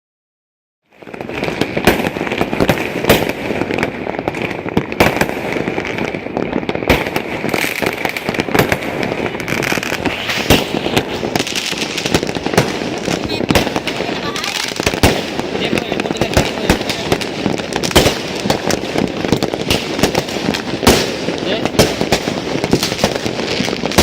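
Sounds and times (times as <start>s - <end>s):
fireworks crackling: 0.9s - 24.0s
loud fireworks bangs: 0.9s - 24.0s.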